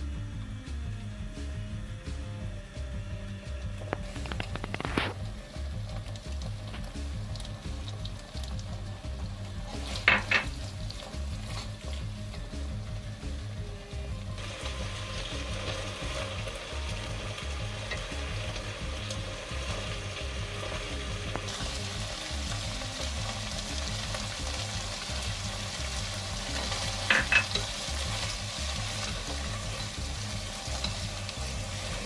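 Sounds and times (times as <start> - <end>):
background music with steady beat: 0.0 - 32.0
food sizzling in a pot: 3.4 - 32.0.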